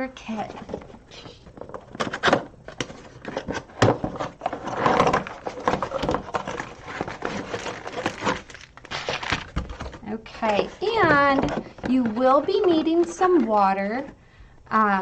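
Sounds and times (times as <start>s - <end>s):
packaging rustling and crinkling: 0.4s - 13.5s.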